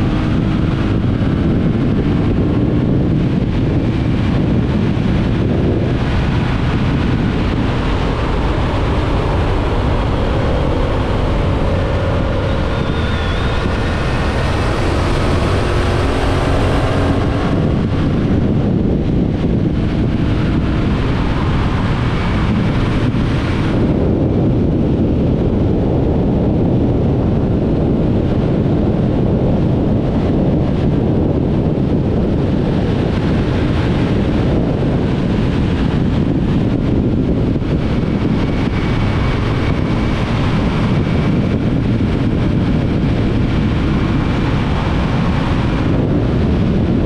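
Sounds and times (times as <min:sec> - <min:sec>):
motorcycle engine accelerating: 0:00.0 - 0:47.0
wind rushing on microphone: 0:00.0 - 0:47.0.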